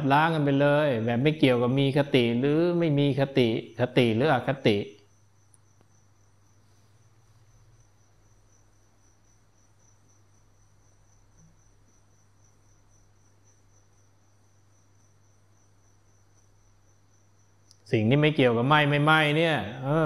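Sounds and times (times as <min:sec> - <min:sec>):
cricket chirping: 0:00.0 - 0:20.0
low electrical hum: 0:00.0 - 0:20.0.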